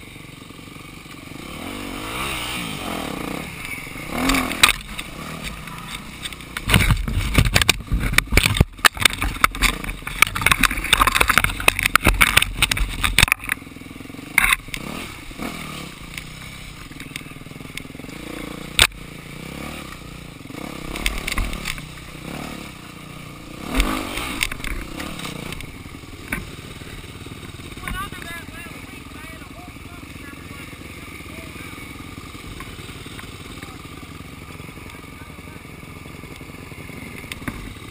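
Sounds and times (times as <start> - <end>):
dirt bike engine running: 0.0 - 37.9
dirt bike jolting over rough trail: 0.0 - 37.9.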